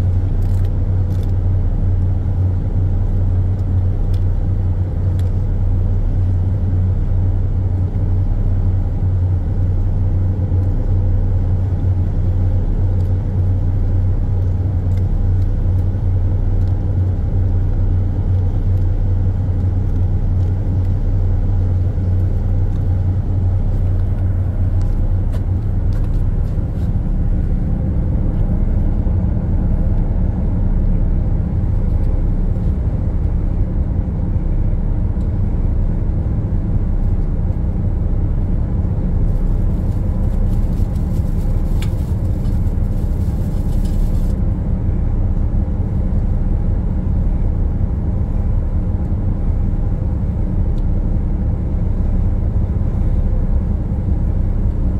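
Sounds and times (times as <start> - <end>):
ship machinery rumbling: 0.0 - 54.9.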